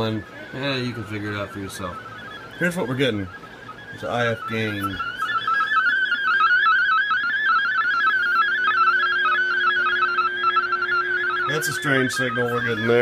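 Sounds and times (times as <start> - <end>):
steady lower tone: 0.0 - 13.0
warbling radio tone: 0.0 - 13.0.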